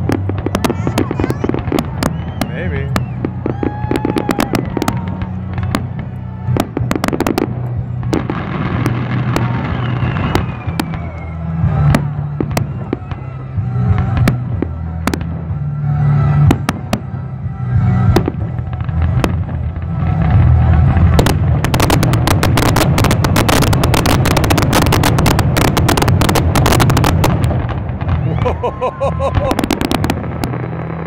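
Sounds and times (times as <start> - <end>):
rapid string of firework bangs: 0.0 - 31.0.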